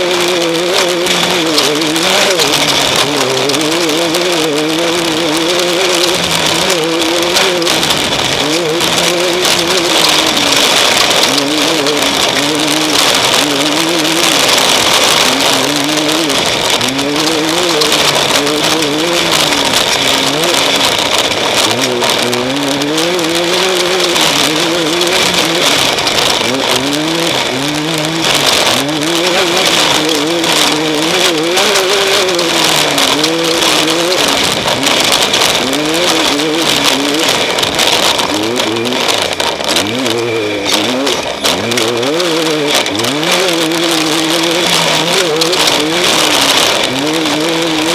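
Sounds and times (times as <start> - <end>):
race vehicle engine revving: 0.0 - 47.9
steady loud hiss: 0.0 - 47.9.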